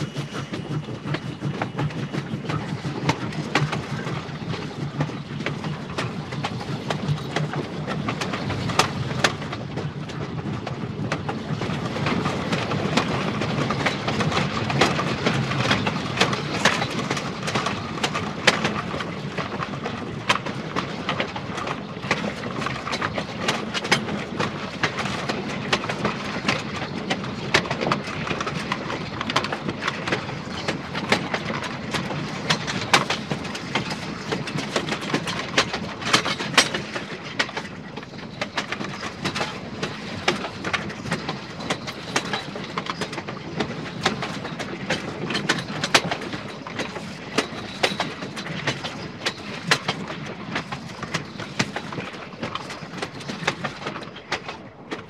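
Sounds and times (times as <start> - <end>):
train cars rumbling on track: 0.0 - 55.0
wheels clicking and clanking: 0.0 - 55.0.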